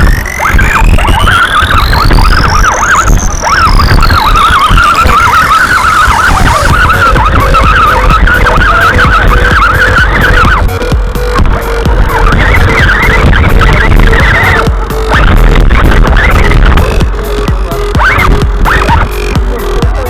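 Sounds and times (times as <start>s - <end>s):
heavy bass: 0.0s - 20.0s
synth sweep: 0.0s - 20.0s
warbling synth lead: 0.0s - 20.0s.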